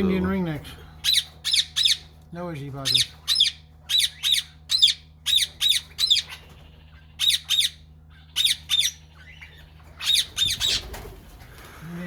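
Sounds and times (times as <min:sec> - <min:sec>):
parakeets screeching: 0:00.9 - 0:11.3.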